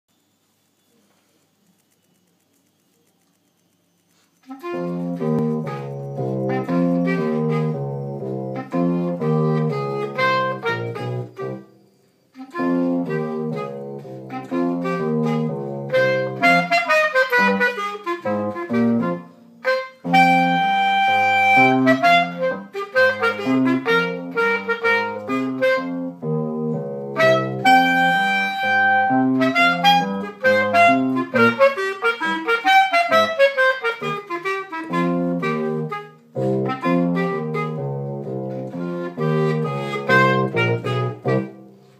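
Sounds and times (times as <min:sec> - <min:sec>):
solo clarinet melody: 0:04.4 - 0:41.9.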